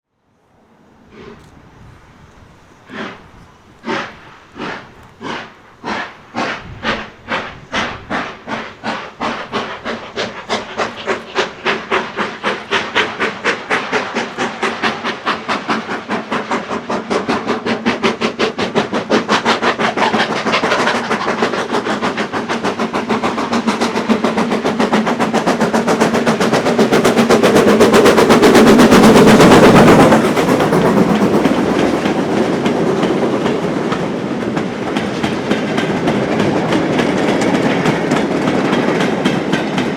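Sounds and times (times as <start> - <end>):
steam locomotive exhaust chuffs: 0.9 - 39.9.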